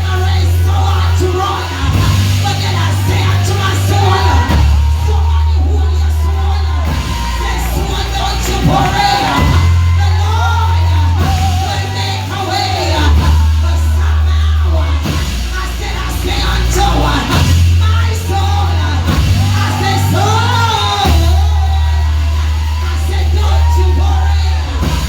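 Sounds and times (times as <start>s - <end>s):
gospel singer with band: 0.0s - 25.0s
held bass notes: 0.0s - 25.0s.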